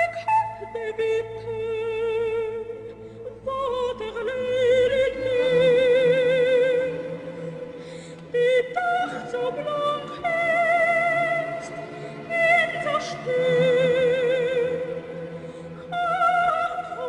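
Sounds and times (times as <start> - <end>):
low sustained accompaniment: 0.0 - 17.0
operatic high voice singing: 0.0 - 17.0.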